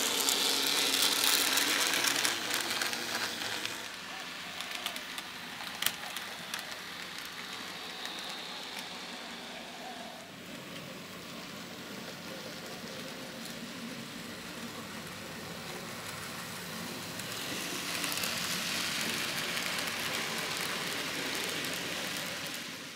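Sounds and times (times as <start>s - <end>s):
model train rattling: 0.0s - 22.9s.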